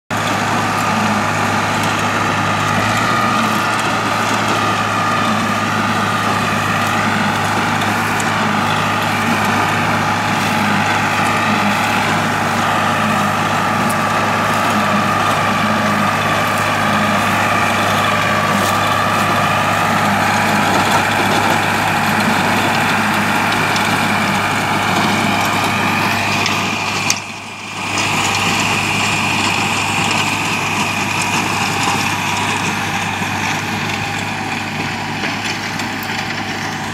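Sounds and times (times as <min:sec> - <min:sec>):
tractor diesel engine running: 0:00.0 - 0:36.9
rotavator churning soil: 0:00.1 - 0:36.9
steady whine: 0:00.1 - 0:36.9.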